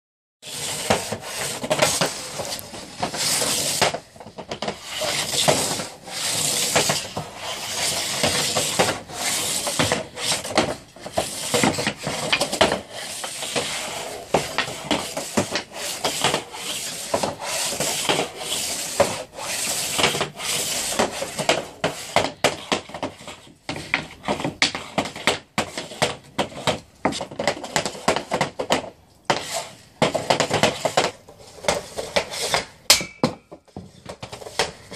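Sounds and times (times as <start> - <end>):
hockey stick and puck on tiles: 0.4 - 34.9.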